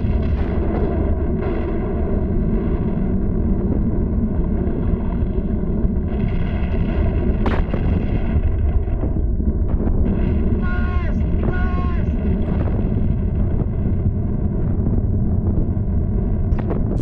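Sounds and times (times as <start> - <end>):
volcano rumbling: 0.0 - 17.0.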